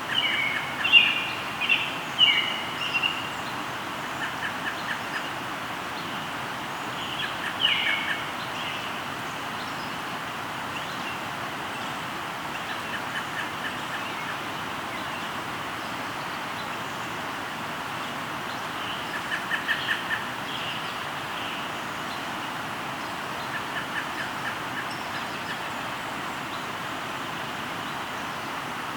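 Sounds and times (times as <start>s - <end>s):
birds singing: 0.0s - 28.7s
river rushing: 0.0s - 28.9s.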